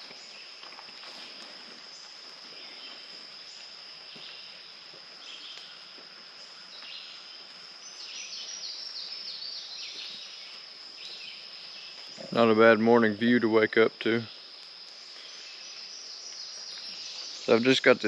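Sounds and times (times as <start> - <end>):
birds singing: 1.8 - 13.4, 14.1 - 18.0.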